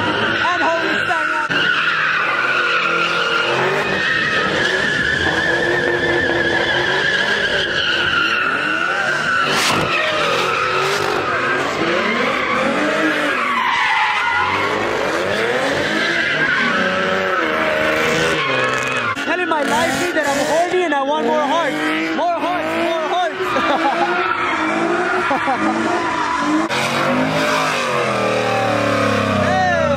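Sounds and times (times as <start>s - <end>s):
car engines revving: 0.0s - 29.9s
tyres squealing: 0.0s - 29.9s.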